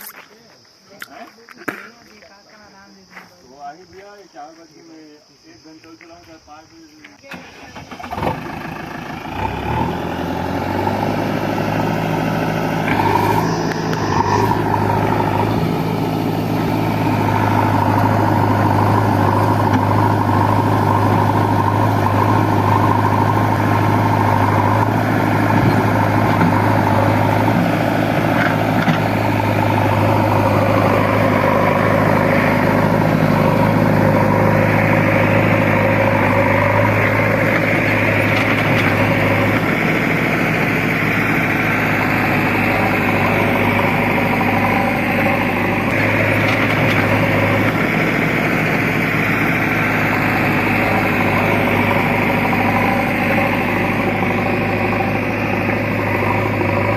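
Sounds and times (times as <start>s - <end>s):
diesel engine idling: 6.4s - 56.9s.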